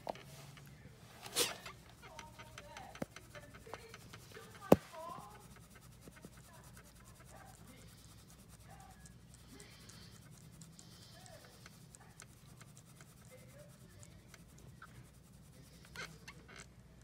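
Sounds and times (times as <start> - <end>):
dog gnawing and pawing toy: 0.0 - 15.0.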